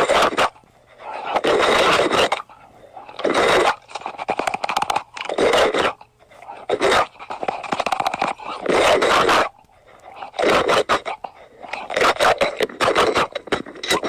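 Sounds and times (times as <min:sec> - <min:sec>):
crunching and chewing: 0:00.0 - 0:14.0.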